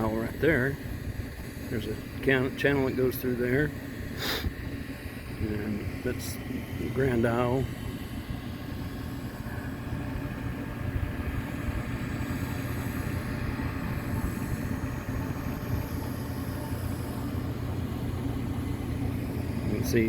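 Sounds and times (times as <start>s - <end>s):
machinery rumbling and humming: 0.0s - 20.0s.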